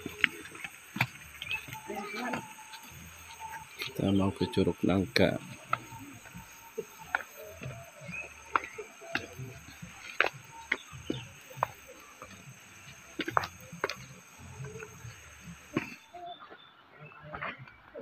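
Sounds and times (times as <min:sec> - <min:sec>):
high-pitched insect buzz: 0:00.0 - 0:16.1
footsteps in sandals on stone: 0:00.0 - 0:18.0.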